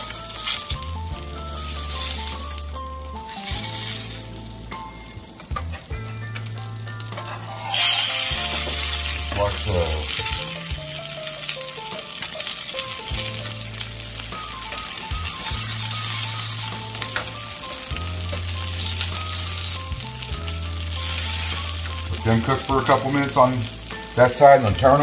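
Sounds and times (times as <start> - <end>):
potatoes sizzling in hot oil: 0.0 - 25.0.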